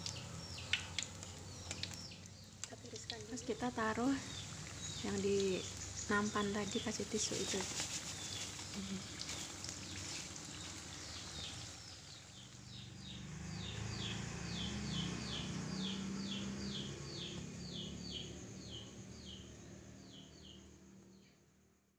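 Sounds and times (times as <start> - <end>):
bird chirping: 0.0 - 2.6, 3.4 - 21.3.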